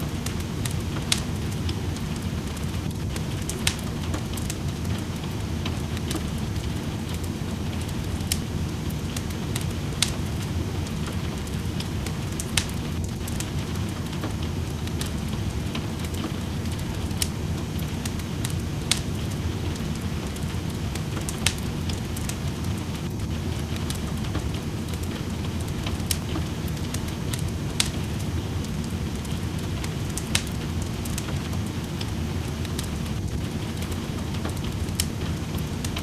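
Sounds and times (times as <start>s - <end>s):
rain rushing: 0.0s - 36.0s
wood fire crackling and popping: 0.0s - 36.0s.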